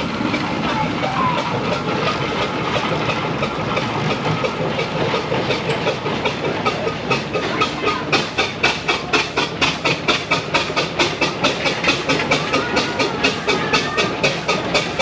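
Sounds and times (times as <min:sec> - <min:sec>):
chimney exhaust beats: 0:00.0 - 0:15.0
steam engine rumble: 0:00.0 - 0:15.0.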